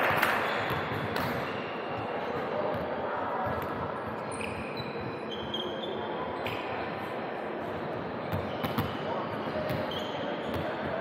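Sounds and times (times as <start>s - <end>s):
gym hall background: 0.0s - 11.0s
sneakers squeaking on court: 0.2s - 6.8s, 8.3s - 11.0s.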